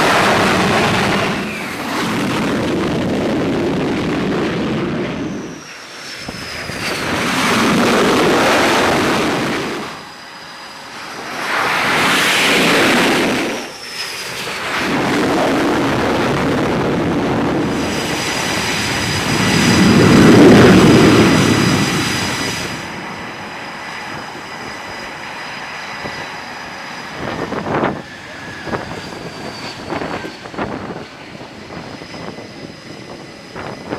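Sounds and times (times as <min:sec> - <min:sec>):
jet aircraft passing: 0:00.0 - 0:33.9
steady high whine: 0:00.0 - 0:33.9.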